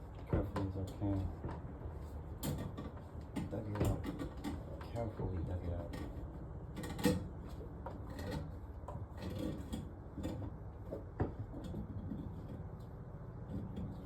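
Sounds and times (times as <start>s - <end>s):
knocks and scraping on drain pipe: 0.0s - 14.0s.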